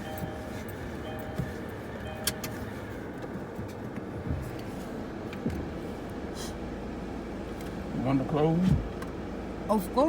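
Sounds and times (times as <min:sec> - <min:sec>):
car idling: 0:00.0 - 0:10.0.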